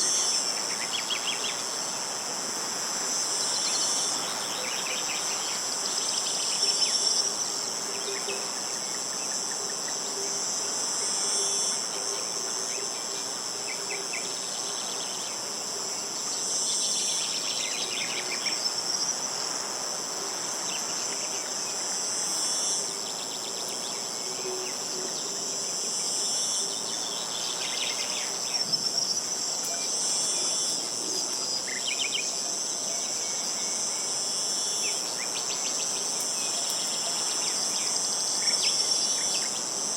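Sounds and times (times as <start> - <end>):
insect chorus droning: 0.0 - 39.9.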